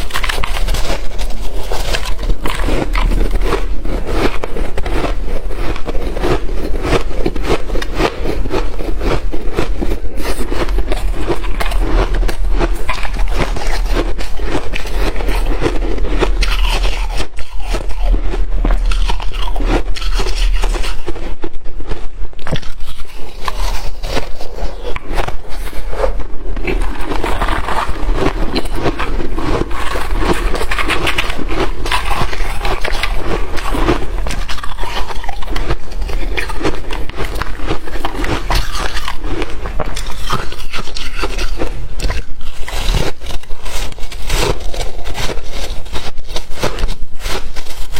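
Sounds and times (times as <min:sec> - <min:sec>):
chewing and crunching ice: 0:00.0 - 0:47.9.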